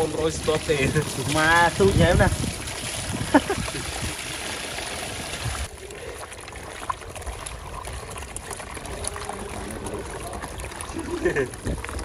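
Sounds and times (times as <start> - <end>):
water splashing into a basin: 0.0 - 12.0.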